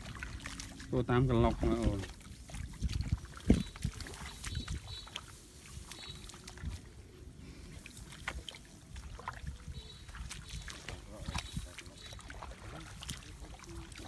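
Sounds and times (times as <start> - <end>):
splashes and squelches in mud: 0.0 - 14.0.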